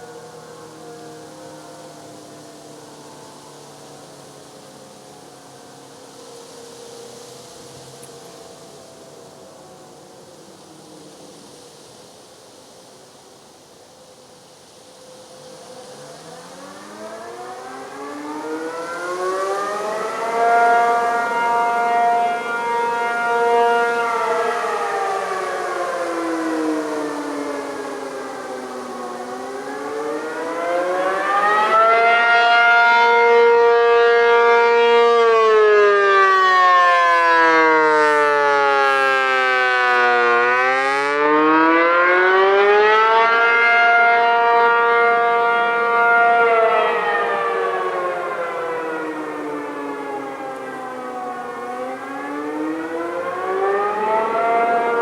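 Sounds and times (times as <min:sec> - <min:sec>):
warning siren wailing: 0:00.0 - 0:11.0, 0:15.0 - 0:55.0.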